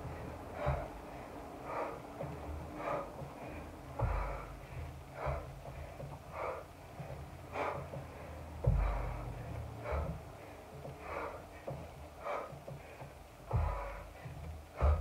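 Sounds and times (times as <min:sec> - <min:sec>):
dull thumps: 0:00.0 - 0:15.0
woman breathing hard: 0:00.0 - 0:15.0.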